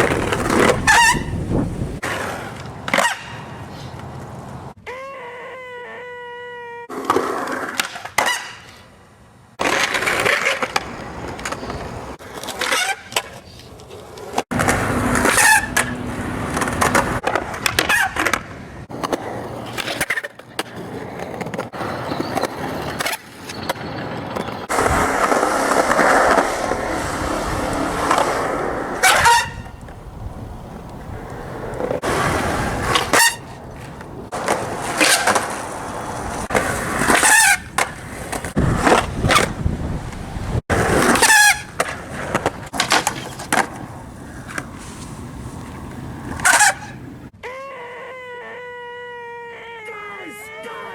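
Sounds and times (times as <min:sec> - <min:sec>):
skateboard wheels scraping and squealing: 0:00.0 - 0:50.9.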